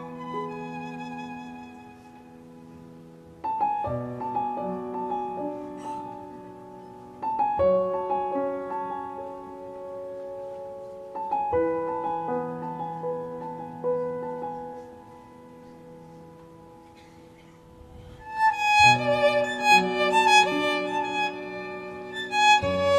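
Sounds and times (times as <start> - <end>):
slow piano chords: 0.0 - 22.9.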